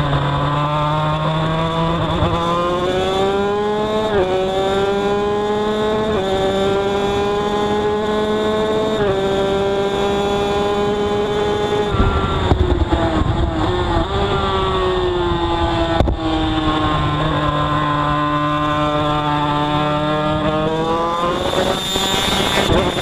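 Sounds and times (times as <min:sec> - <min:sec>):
two-stroke motorcycle engine: 0:00.0 - 0:23.0.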